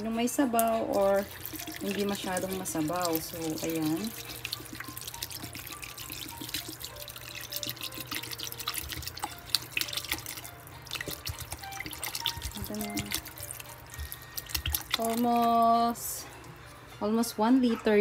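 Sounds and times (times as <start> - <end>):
water pouring and splashing: 0.2 - 17.1.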